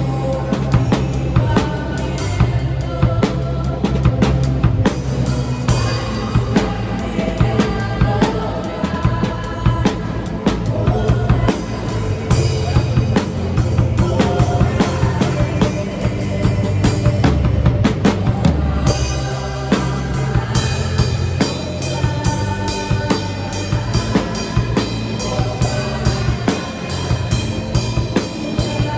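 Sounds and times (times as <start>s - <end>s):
backing music: 0.0s - 28.9s
drum kit playing: 0.0s - 28.9s.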